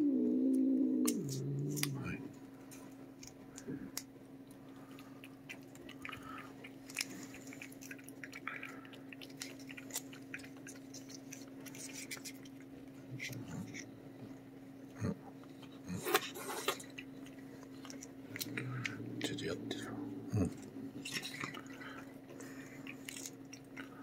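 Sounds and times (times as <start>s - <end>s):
steady low hum: 0.0s - 24.0s
cat lapping and smacking: 3.2s - 14.6s, 15.3s - 24.0s.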